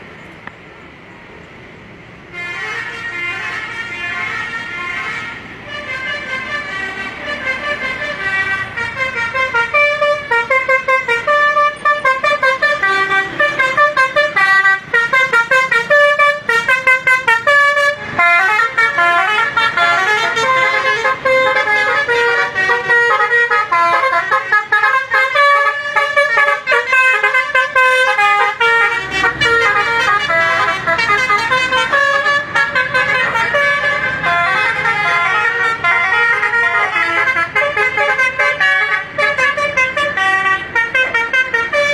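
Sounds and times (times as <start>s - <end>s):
multi-tone musical bus horn: 2.3s - 41.9s.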